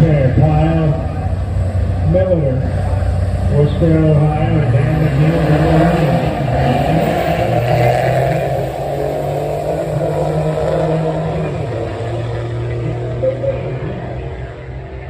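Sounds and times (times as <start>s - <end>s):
racing car engines running: 0.0s - 15.0s.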